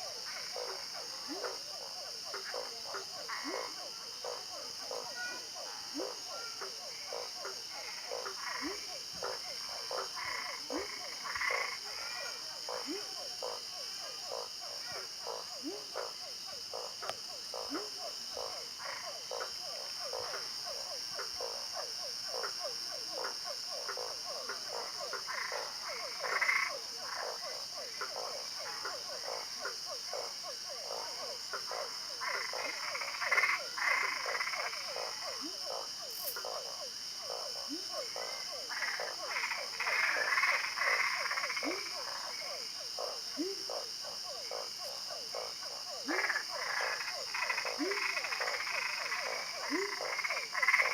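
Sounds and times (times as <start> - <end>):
frogs croaking: 0.0 - 50.9.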